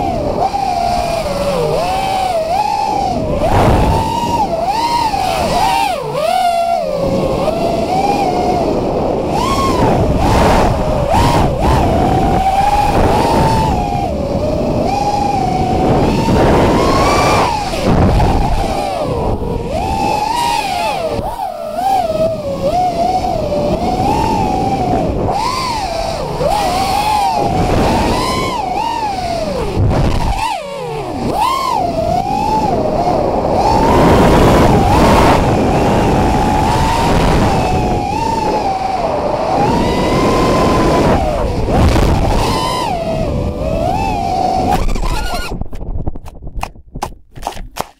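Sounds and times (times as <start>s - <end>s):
quadcopter motors whining: 0.0s - 45.8s.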